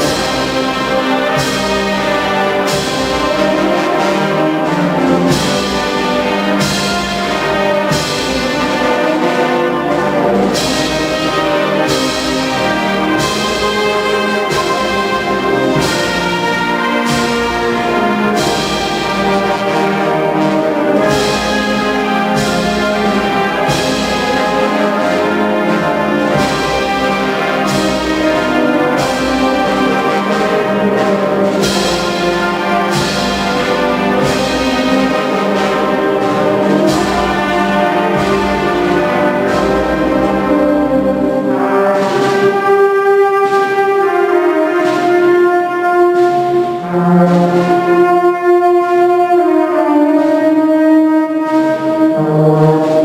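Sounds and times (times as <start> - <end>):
percussion strokes: 0.0 - 50.7
wind band playing a march: 0.0 - 53.0.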